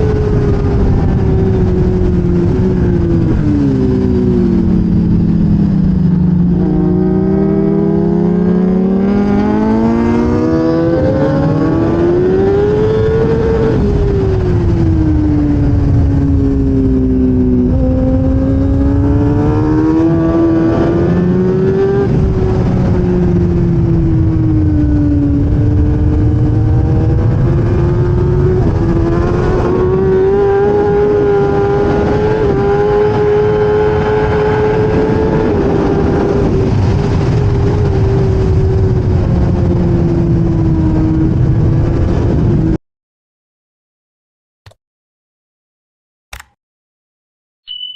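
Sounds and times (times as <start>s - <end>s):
motorcycle engine revving: 0.0s - 42.7s
wind rush on microphone: 0.0s - 42.8s.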